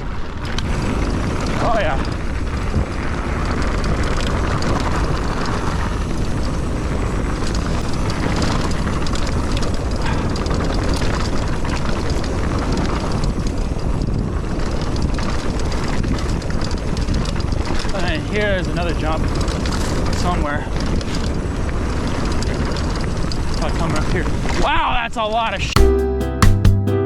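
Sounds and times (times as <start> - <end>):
bike rattles and ticks: 0.0 - 24.6
tyres rolling over dirt trail: 0.0 - 24.7
wind buffeting microphone: 0.0 - 24.7.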